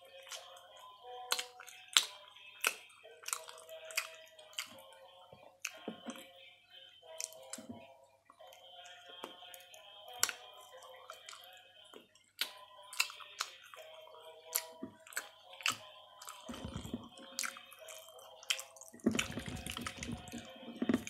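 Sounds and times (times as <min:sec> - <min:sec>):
chewing with mouth clicks: 0:00.0 - 0:05.0, 0:05.6 - 0:06.2, 0:07.1 - 0:21.0.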